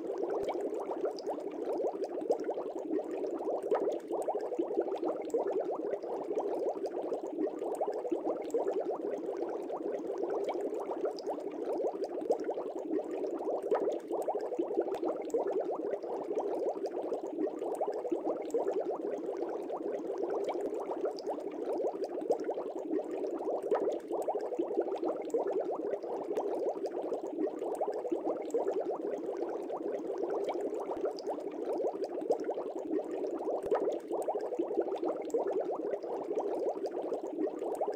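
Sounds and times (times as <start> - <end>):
aquarium water bubbling: 0.0 - 37.9.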